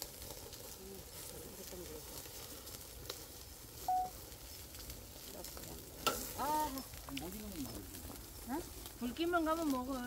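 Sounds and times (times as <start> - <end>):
pork sizzling on a grill: 0.0 - 10.0.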